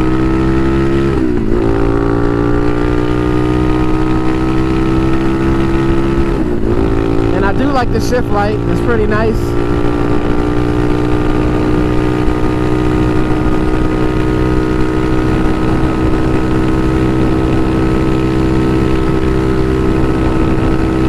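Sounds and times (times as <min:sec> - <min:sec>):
motorcycle engine running steadily: 0:00.0 - 0:21.0.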